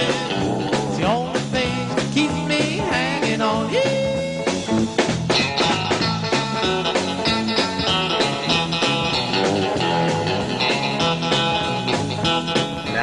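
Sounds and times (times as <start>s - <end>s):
bass and drums steady beat: 0.0s - 13.0s
guitar lead: 0.0s - 13.0s.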